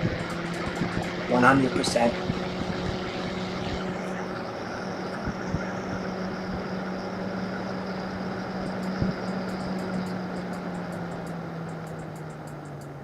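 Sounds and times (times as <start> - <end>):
computer fan air rush: 0.0 - 13.0
faint high whine: 0.0 - 13.0
low hum: 0.0 - 13.0.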